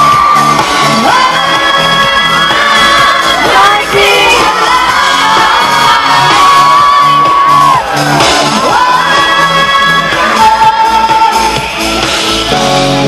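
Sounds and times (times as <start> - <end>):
fans whooping and shouting: 0.0 - 11.9
pulsing bass beat: 0.0 - 13.0.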